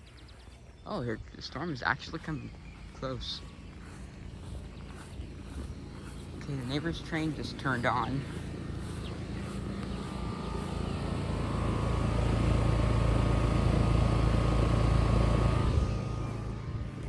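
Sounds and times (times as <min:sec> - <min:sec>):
low machine hum: 0:00.0 - 0:17.0
vehicle passing by: 0:02.2 - 0:17.0.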